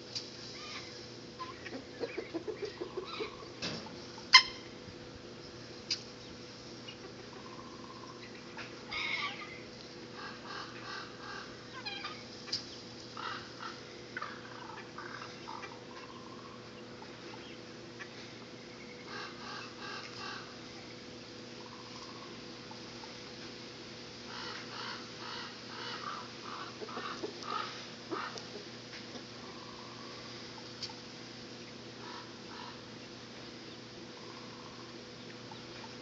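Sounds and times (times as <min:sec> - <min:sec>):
poultry calls: 0:00.6 - 0:04.8, 0:06.8 - 0:23.2, 0:24.2 - 0:28.7, 0:31.6 - 0:36.0.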